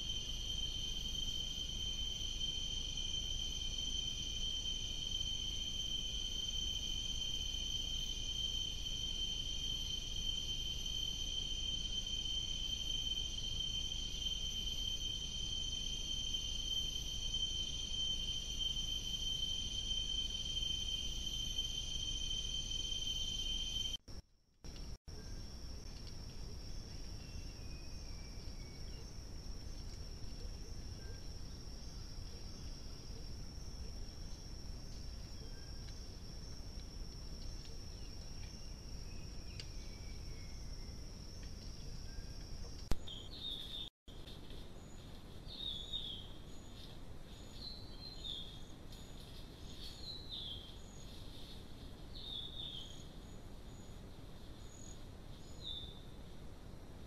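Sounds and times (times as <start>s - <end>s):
high insect drone: 0.0s - 56.9s.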